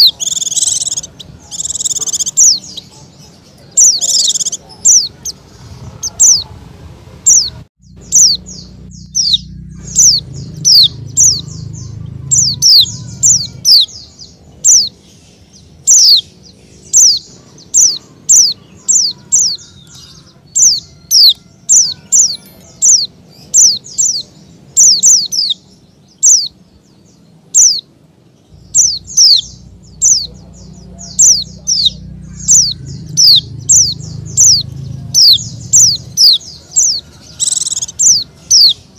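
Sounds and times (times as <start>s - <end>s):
bird chirping: 0.0s - 6.6s, 7.2s - 38.9s.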